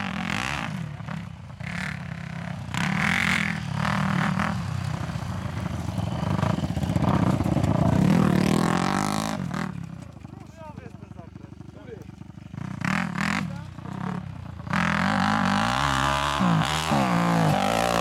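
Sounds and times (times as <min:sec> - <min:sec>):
dirt bike engine revving: 0:00.0 - 0:10.3, 0:11.6 - 0:18.0.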